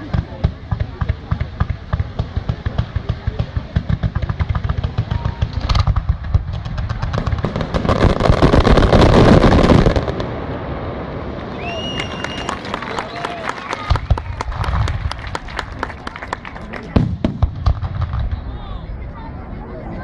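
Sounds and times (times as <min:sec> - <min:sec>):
fireworks bangs and crackling: 0:00.0 - 0:19.1.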